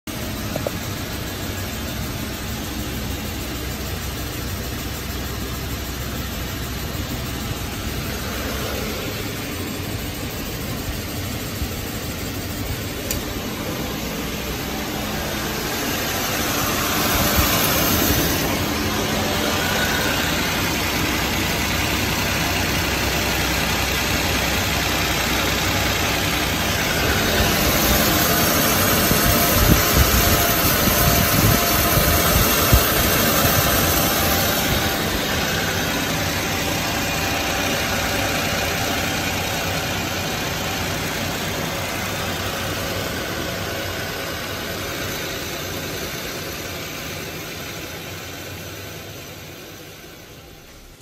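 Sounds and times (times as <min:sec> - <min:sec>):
road and drivetrain noise: 0:00.0 - 0:51.0
wheel bearing drone: 0:00.1 - 0:51.0.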